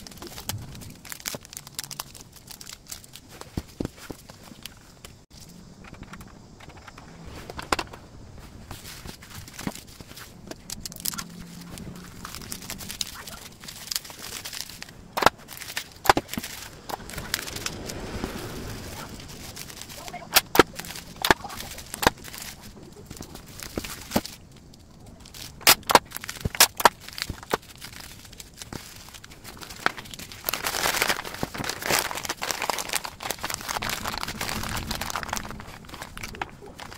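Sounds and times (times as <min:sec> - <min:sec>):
bubble wrap snapping: 0:00.0 - 0:05.1, 0:08.7 - 0:36.9
bubble wrap rustling: 0:00.0 - 0:05.5, 0:08.4 - 0:36.9.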